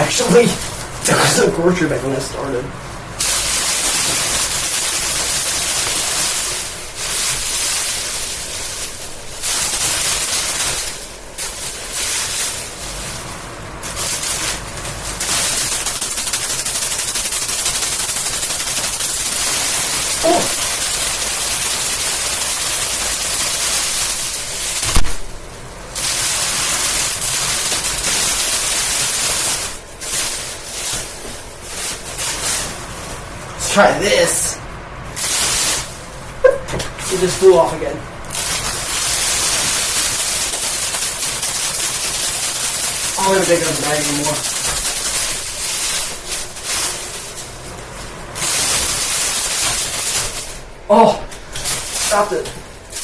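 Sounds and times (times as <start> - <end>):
plastic bag flapping against fan blades: 0.0 - 34.3, 35.2 - 53.0.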